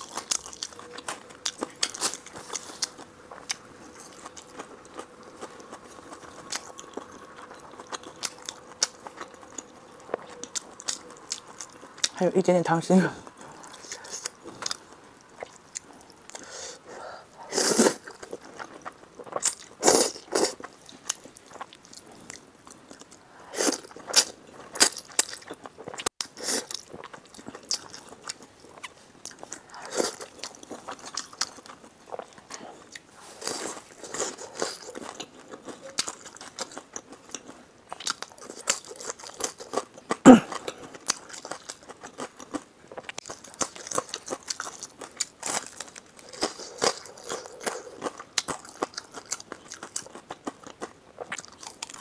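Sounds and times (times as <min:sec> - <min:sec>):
chewing and mouth smacking: 0:00.0 - 0:12.2, 0:13.2 - 0:16.5, 0:17.7 - 0:52.0.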